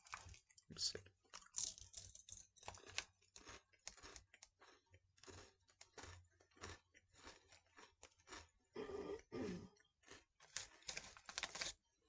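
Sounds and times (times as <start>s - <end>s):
chewing crunchy candy: 0.0s - 11.8s.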